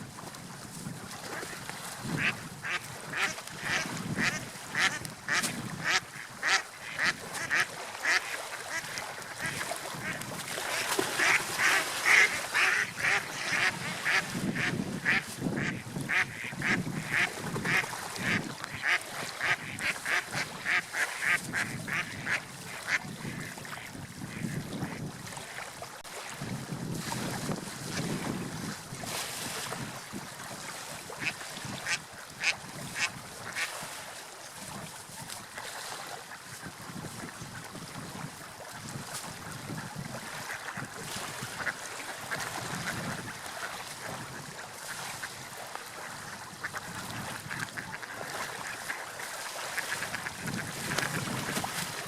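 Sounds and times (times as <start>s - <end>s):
rushing water: 0.0s - 52.0s
wind: 0.0s - 52.0s.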